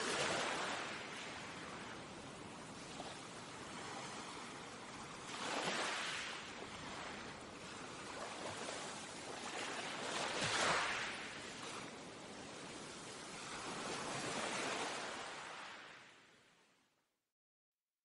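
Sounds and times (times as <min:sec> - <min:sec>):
sea waves washing against rock: 0:00.0 - 0:15.8.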